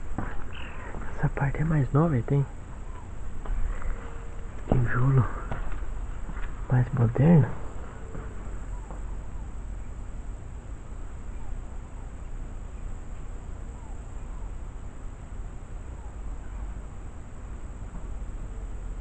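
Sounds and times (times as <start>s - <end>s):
faint insects buzzing: 0.0s - 19.0s
low wind rumble: 0.0s - 19.0s.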